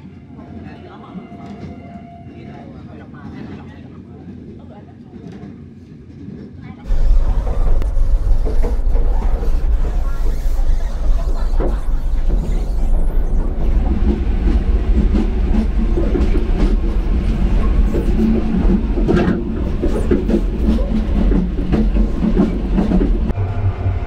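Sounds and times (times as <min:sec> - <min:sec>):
train carriage rumbling and rattling: 0:00.0 - 0:24.0.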